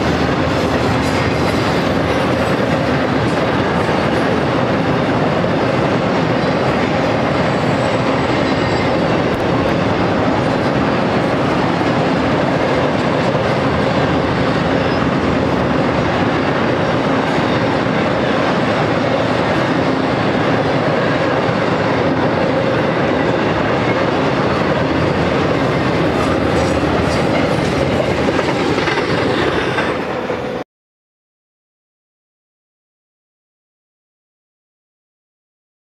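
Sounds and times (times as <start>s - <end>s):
freight train wheels clattering on rails: 0.0s - 30.6s.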